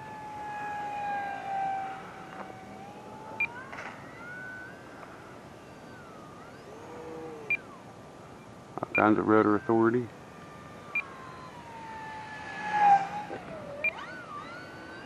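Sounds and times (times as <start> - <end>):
model plane electric motor whining: 0.0 - 15.0.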